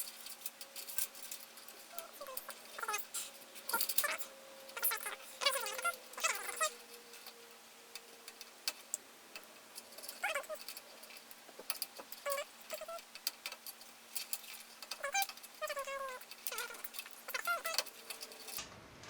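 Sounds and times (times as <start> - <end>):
cable connectors clicking: 0.0 - 18.6
faint steady hum: 0.0 - 19.0
high squeaky whines: 0.8 - 13.3, 14.2 - 18.6.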